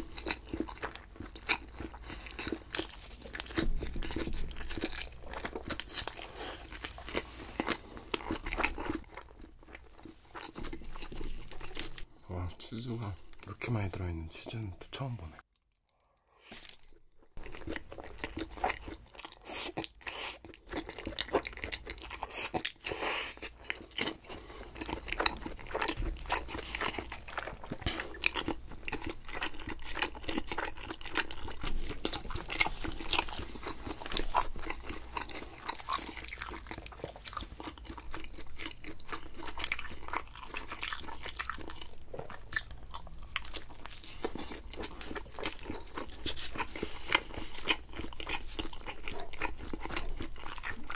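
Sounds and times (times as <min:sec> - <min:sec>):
crunchy pizza eating: 0:00.0 - 0:13.8, 0:15.9 - 0:50.9.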